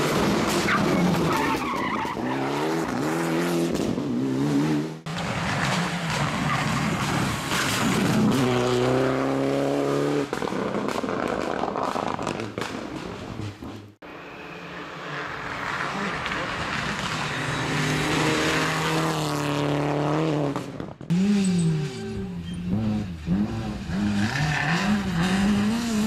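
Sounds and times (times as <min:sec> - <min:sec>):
car accelerating: 0:00.0 - 0:12.6, 0:13.2 - 0:26.0
rally car engines revving: 0:00.0 - 0:26.0
harsh engine of approaching car: 0:02.6 - 0:26.0.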